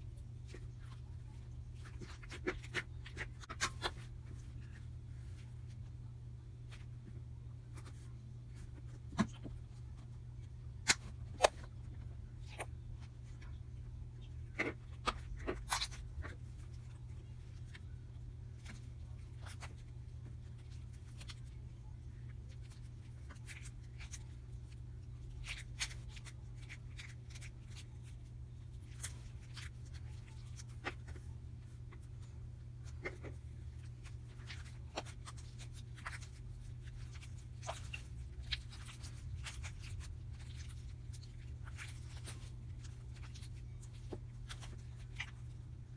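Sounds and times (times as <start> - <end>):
hands squishing slime: 0.0 - 5.9, 14.2 - 45.9
steady low hum: 0.0 - 45.9.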